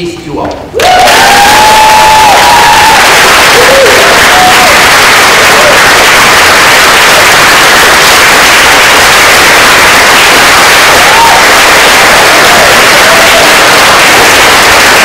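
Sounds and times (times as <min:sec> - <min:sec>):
crowd clapping: 0:00.8 - 0:15.0
whoops: 0:00.8 - 0:15.0.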